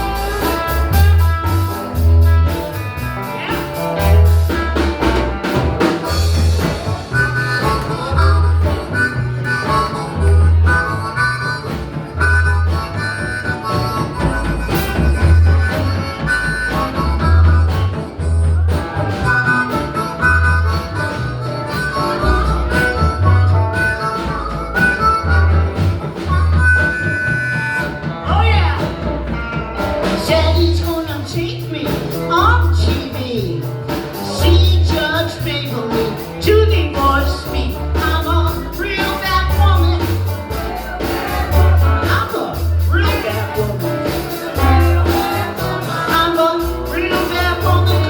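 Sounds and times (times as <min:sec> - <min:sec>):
harmonica long notes: 0:00.0 - 0:32.9, 0:33.6 - 0:48.0
live blues band: 0:00.0 - 0:48.0.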